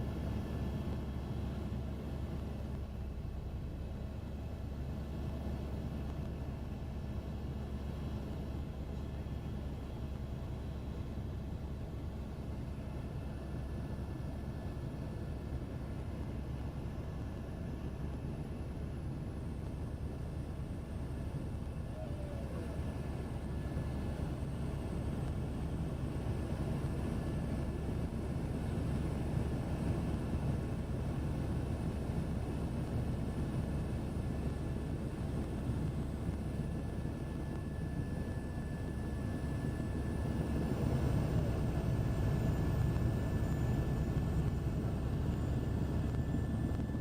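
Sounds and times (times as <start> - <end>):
helicopter cabin drone: 0.0 - 47.0.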